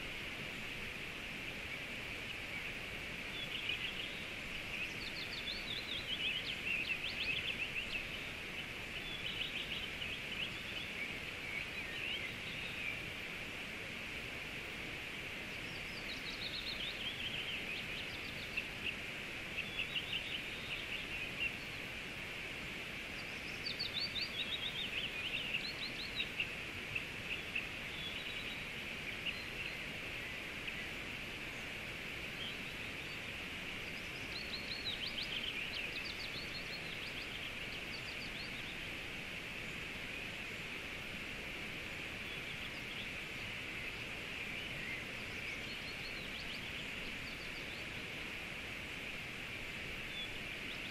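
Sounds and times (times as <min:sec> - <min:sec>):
river flowing: 0:00.0 - 0:50.9
songbird chirping: 0:00.0 - 0:50.9.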